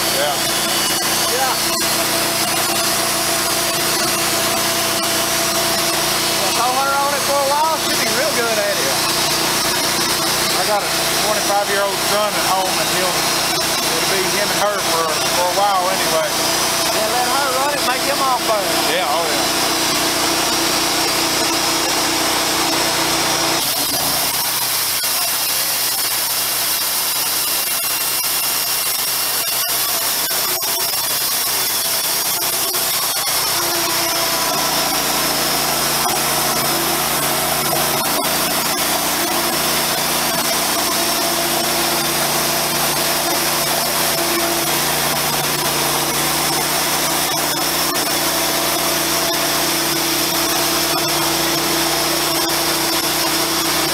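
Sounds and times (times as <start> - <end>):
bandsaw sawmill cutting log: 0.0 - 53.9.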